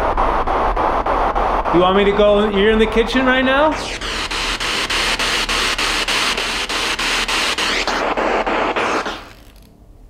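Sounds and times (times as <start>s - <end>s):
radio static hiss: 0.0s - 9.7s
steady clicking: 0.0s - 9.7s.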